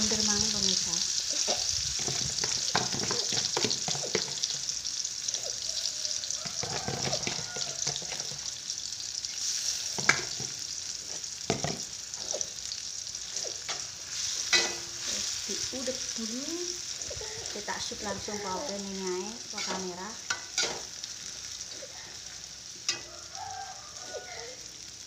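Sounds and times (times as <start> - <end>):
chili paste sizzling in oil: 0.0 - 25.0.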